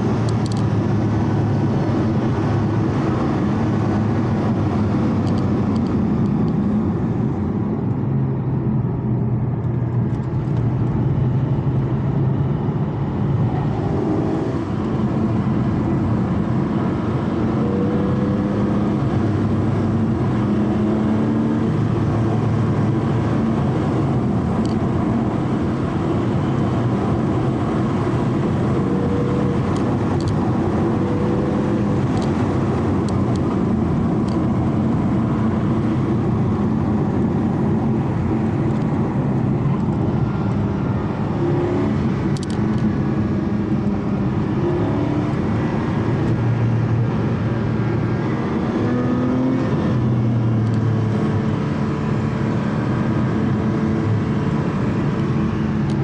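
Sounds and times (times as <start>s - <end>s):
car engine at low revs: 0.0s - 56.0s
tyre and road noise: 0.0s - 56.0s.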